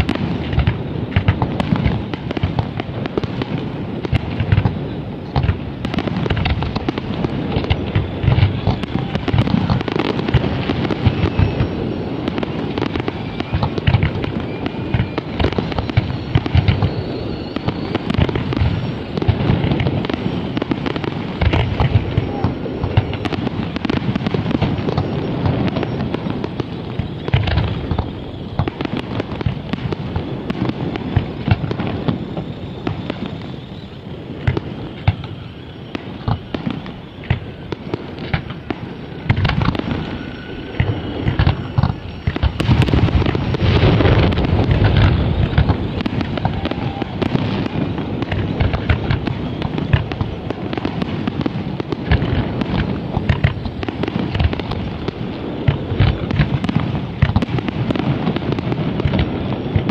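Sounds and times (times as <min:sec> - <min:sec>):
fireworks shells bursting: 0:00.0 - 0:59.9.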